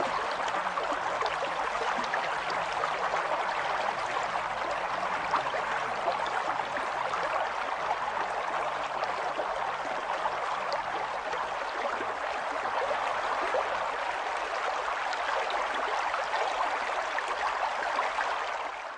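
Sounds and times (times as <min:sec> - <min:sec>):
running water: 0:00.0 - 0:18.9.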